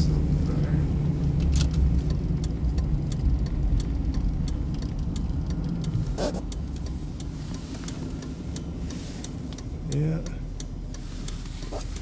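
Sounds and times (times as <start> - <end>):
sharp ticks: 1.2 - 12.0.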